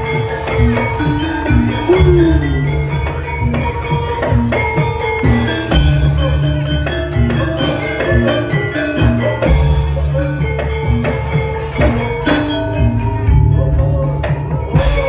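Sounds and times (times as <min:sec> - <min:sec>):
drumming: 0:00.0 - 0:15.0
metallophones ringing melody: 0:00.0 - 0:15.0.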